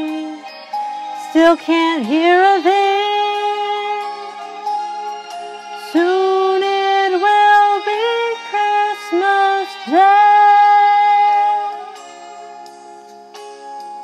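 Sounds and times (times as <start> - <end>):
person singing: 0.0 - 12.2
soft instrumental accompaniment: 0.0 - 14.0.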